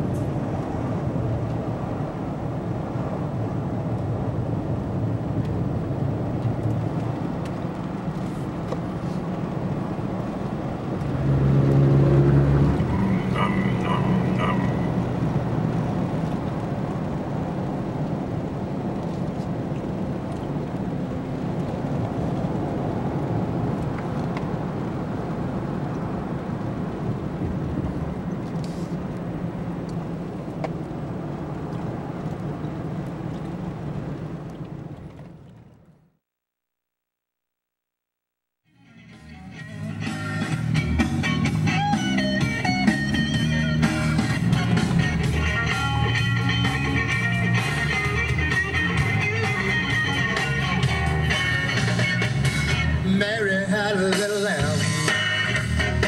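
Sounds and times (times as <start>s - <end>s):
car engine and tyre noise: 0.0s - 36.3s, 38.7s - 56.0s.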